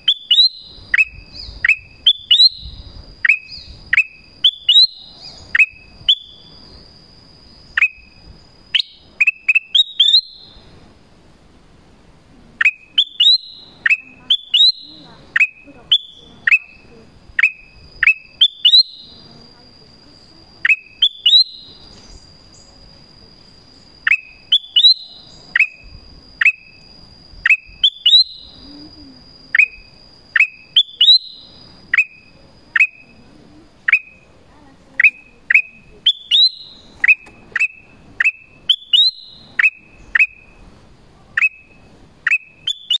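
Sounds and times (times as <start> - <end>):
bulbul calling sharp notes: 0.0 - 10.7, 12.6 - 22.6, 23.8 - 43.0.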